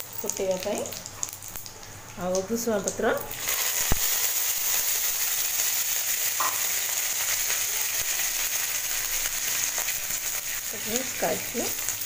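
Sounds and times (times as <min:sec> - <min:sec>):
seeds sizzling in hot oil: 0:00.0 - 0:12.0.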